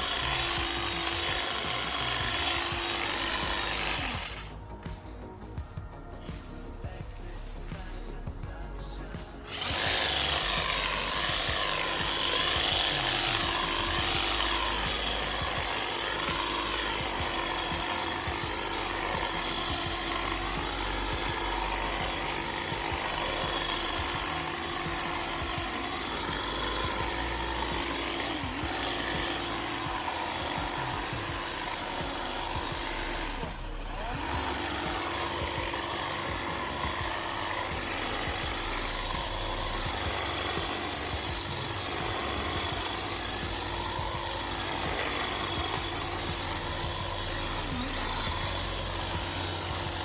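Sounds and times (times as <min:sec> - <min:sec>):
garden power tool running: 0:00.0 - 0:50.0.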